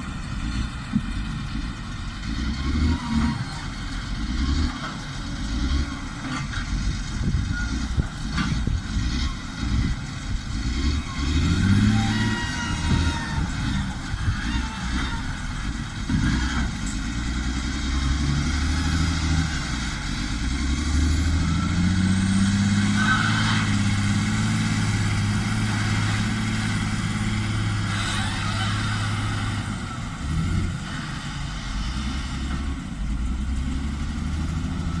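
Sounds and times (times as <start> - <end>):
heavy diesel engine under load: 0.0 - 35.0.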